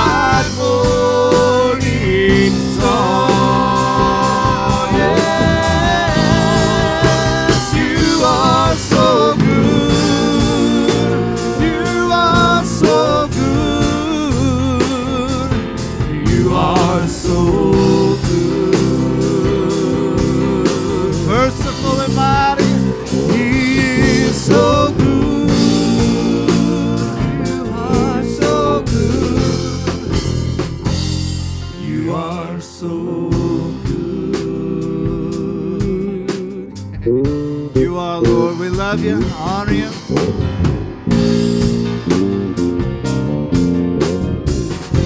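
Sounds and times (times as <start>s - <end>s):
person singing wordless vocal runs: 0.0s - 30.5s, 31.8s - 42.4s
drum kit: 0.0s - 32.6s, 33.2s - 45.0s
guitar: 0.0s - 32.6s, 33.4s - 45.0s.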